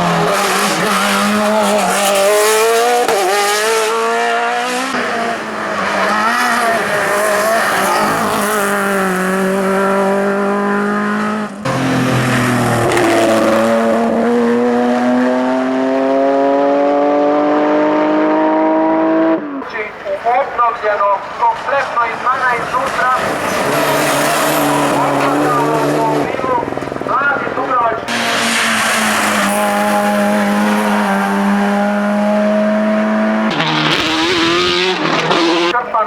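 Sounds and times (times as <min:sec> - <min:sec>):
race car engine revving: 0:00.0 - 0:19.7, 0:22.5 - 0:35.8.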